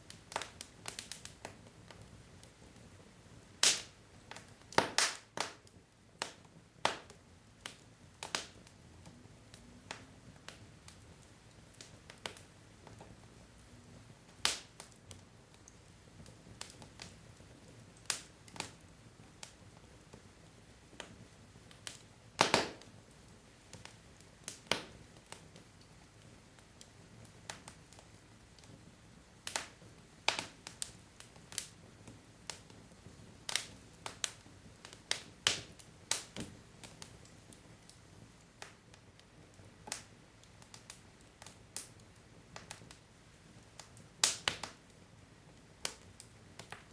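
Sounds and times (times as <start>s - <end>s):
fire crackling with pops: 0.0s - 46.9s.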